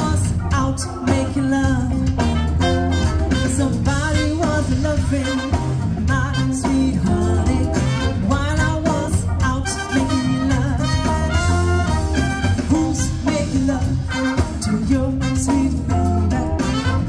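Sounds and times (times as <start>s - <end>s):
band music with singing: 0.0s - 17.0s
held bass notes: 0.0s - 17.0s
steady drum beat: 0.0s - 17.0s.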